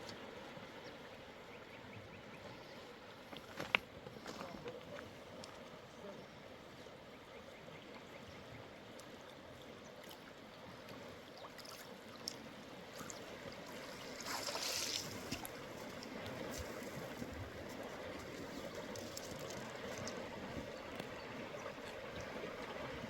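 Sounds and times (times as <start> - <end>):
river water flowing: 0.0 - 4.1, 4.7 - 23.0.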